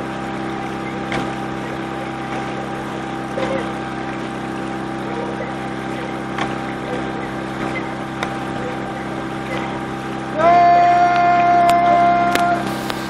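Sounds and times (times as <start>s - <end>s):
loud steady tone: 0.0s - 13.0s
outboard motor running: 0.0s - 13.0s
water noise: 0.0s - 13.0s.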